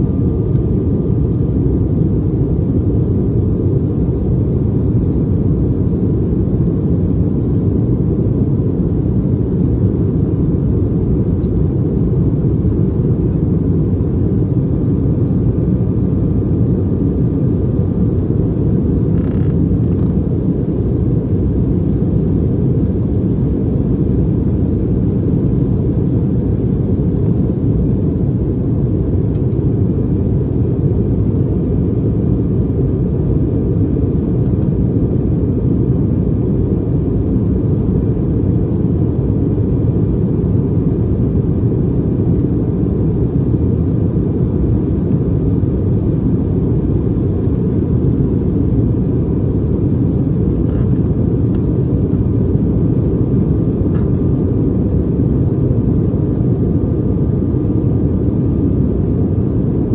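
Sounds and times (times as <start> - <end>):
faint high whine: 0.0 - 59.9
jet cabin low roar: 0.0 - 59.9.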